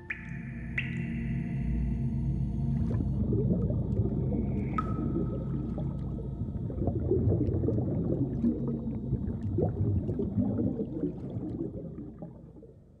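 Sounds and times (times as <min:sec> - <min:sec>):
underwater bubbling and gurgling: 0:00.0 - 0:13.0.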